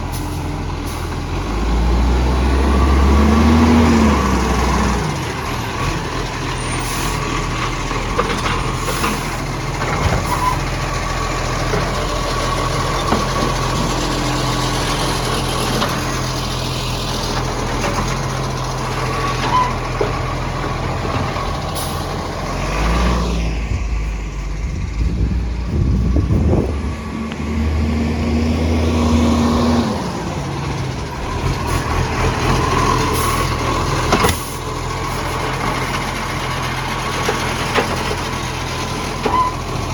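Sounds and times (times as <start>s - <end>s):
diesel engine with exhaust leak: 0.0s - 39.9s.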